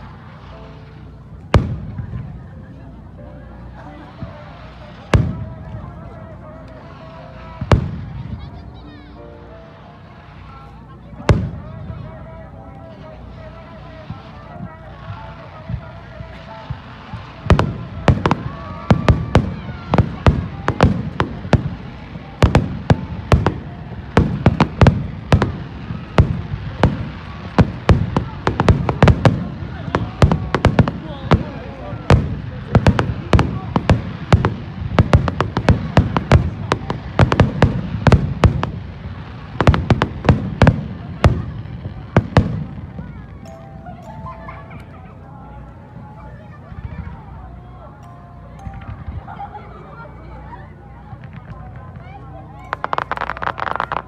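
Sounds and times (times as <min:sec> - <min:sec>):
fireworks bursting: 0:00.0 - 0:45.8, 0:50.4 - 0:54.0.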